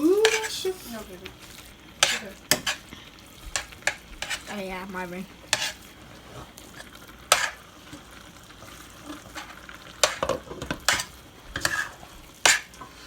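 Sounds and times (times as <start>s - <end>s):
low sizzle: 0.0s - 13.0s.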